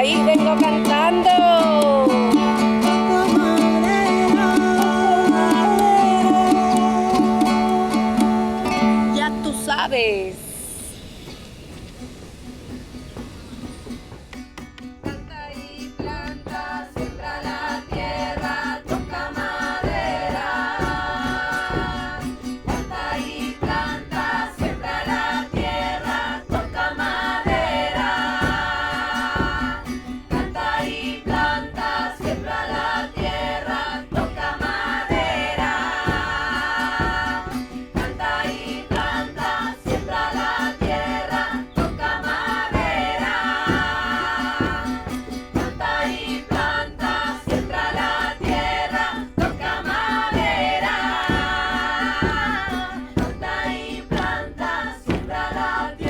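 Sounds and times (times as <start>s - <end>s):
voices singing together: 0.0s - 11.8s, 12.7s - 56.0s
drum beat: 0.0s - 56.0s.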